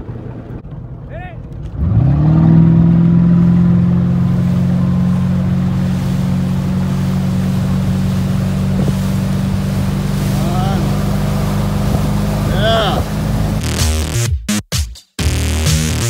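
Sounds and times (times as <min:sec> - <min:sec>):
wind: 0:00.0 - 0:13.6
motorboat engine at high revs: 0:00.0 - 0:14.1
water rushing: 0:00.0 - 0:14.1.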